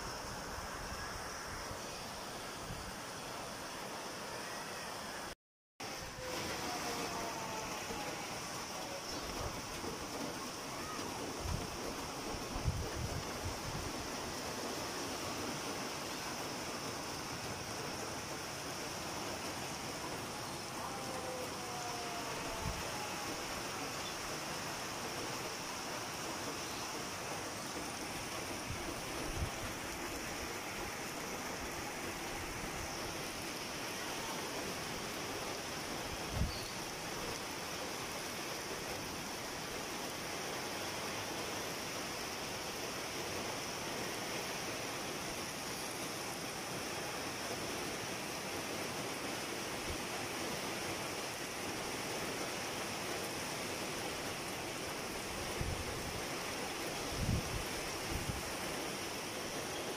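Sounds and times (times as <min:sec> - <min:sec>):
heavy rain and wind: 0:00.0 - 0:59.9.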